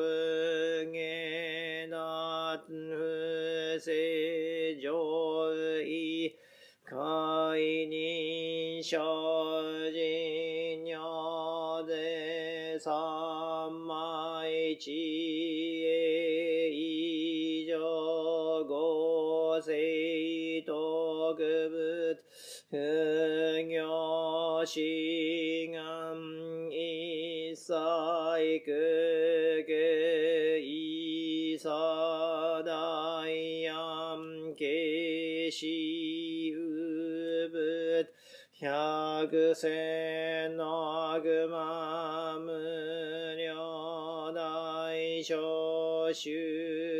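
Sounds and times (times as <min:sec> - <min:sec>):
man chanting: 0:00.0 - 0:06.3, 0:06.9 - 0:46.9.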